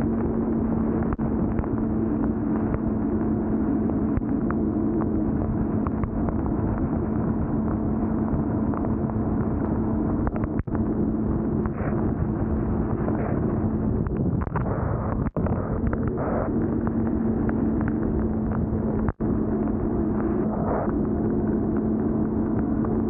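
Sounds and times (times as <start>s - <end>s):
motorcycle engine drone: 0.0s - 23.0s
wind rushing over microphone: 0.0s - 23.0s.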